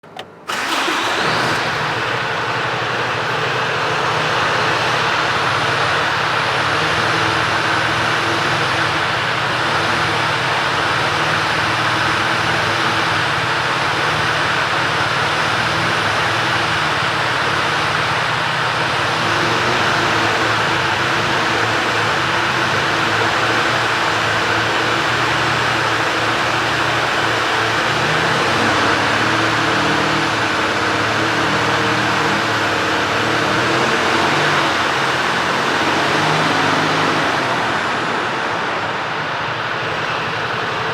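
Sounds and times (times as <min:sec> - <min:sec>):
diesel truck engine starting: 0:00.0 - 0:40.9.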